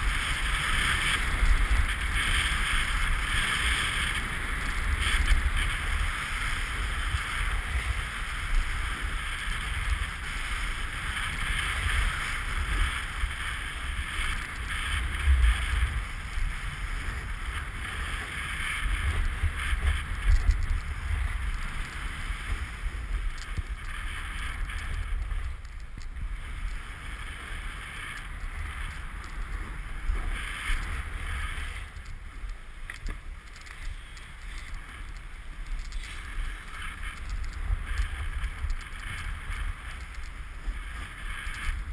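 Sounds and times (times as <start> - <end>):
snowboard scraping over snow: 0.0 - 41.9
wind rumbling on microphone: 0.0 - 41.9.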